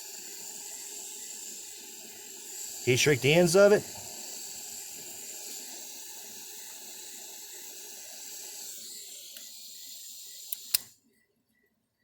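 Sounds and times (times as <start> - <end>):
torch flame hissing: 0.2 - 10.7.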